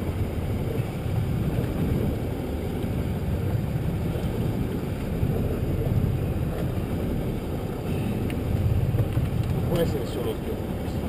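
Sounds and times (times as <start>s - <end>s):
boat low rumble: 0.0s - 11.0s.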